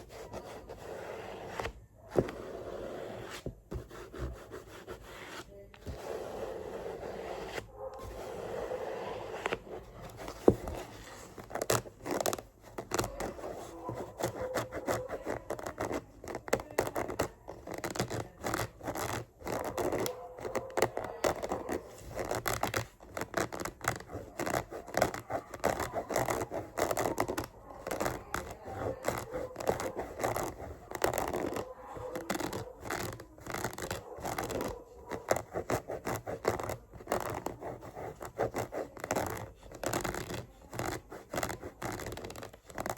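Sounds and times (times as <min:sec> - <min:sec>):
scratching on a book: 0:00.0 - 0:42.9.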